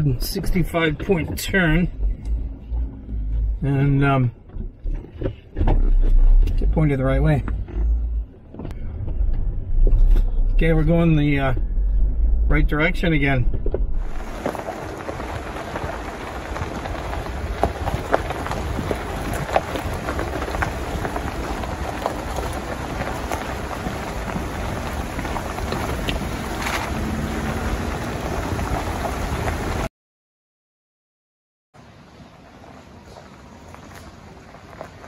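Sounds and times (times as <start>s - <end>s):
low engine rumble: 0.0s - 29.9s, 31.8s - 35.0s
tyre and road noise: 0.0s - 29.9s, 31.8s - 35.0s.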